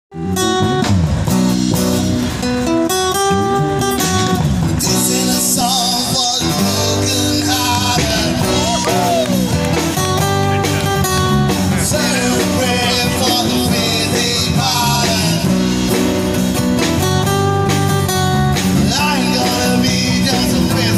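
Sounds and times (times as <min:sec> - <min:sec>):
bending lead melody: 0:00.1 - 0:20.9
strummed acoustic guitars: 0:00.1 - 0:20.9.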